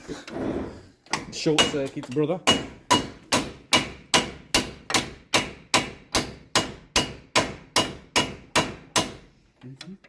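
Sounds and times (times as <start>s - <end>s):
hammer striking metal: 1.1s - 9.3s.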